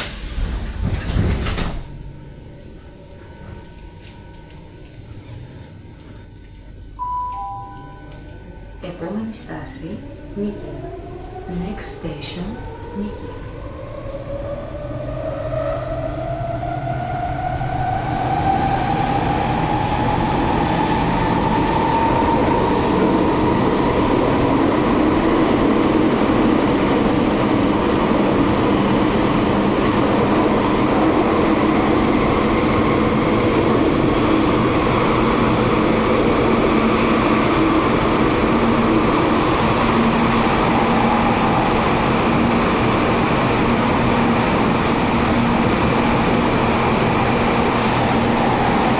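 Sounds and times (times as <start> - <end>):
wheels rumbling on rail: 0.0 - 6.8, 10.0 - 48.9.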